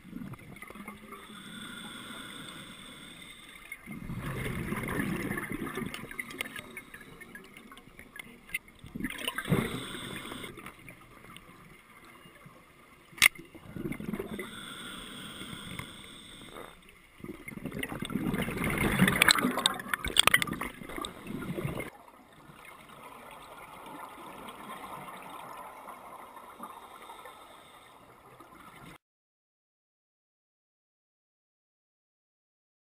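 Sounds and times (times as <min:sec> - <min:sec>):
underwater air bubbling: 0:00.0 - 0:12.4, 0:13.4 - 0:29.0.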